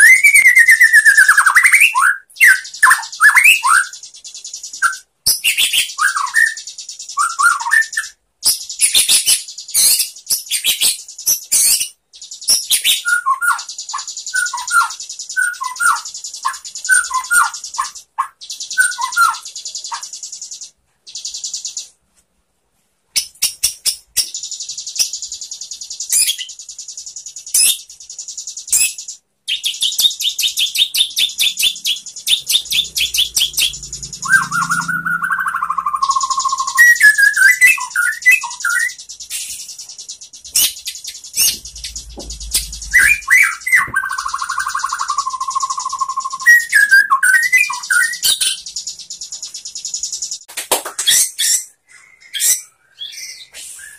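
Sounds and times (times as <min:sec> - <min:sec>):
bird singing trills and whistles: 0:00.0 - 0:22.0, 0:23.2 - 0:53.9.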